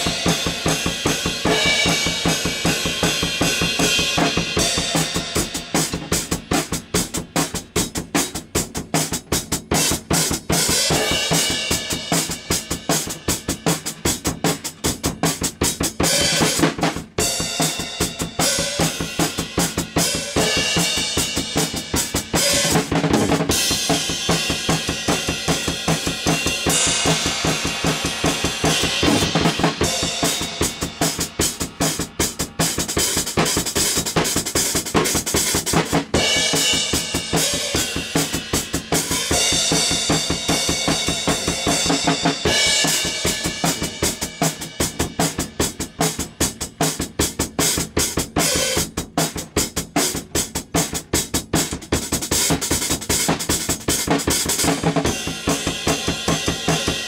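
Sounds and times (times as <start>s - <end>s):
drum kit groove: 0.0s - 57.0s.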